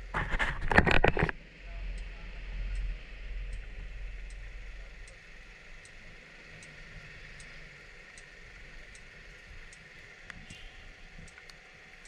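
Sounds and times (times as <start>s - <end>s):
turn-signal flasher ticking: 1.9s - 12.0s.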